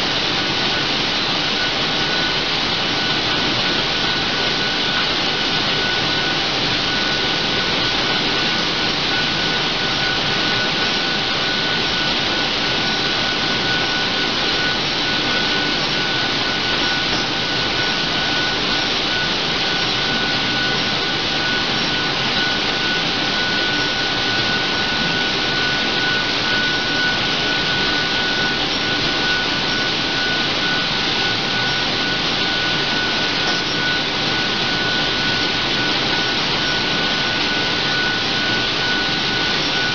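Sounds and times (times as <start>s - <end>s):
high machine whine: 0.0s - 39.9s.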